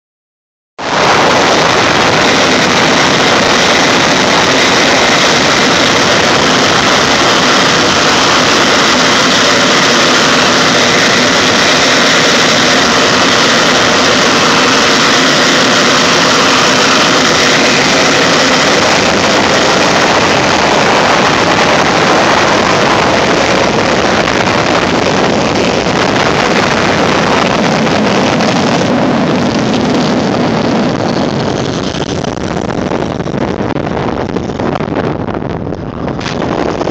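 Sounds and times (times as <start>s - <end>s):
jet engine whine: 0.8s - 36.9s.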